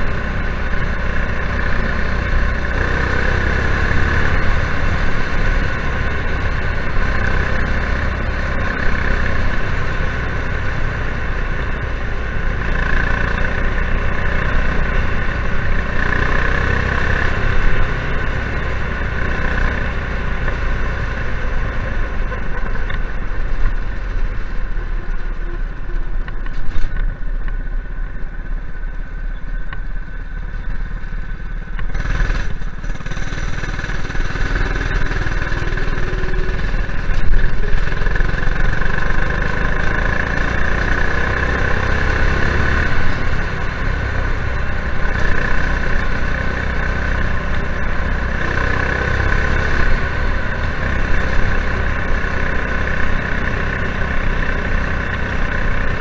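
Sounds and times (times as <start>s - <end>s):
go kart engine racing: 0.0s - 56.0s.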